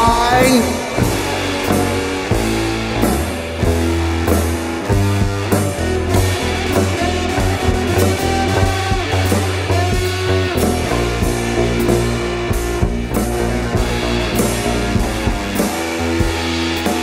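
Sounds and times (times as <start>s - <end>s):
drum kit hits: 0.0s - 17.0s
guitar and bass held notes: 0.0s - 17.0s.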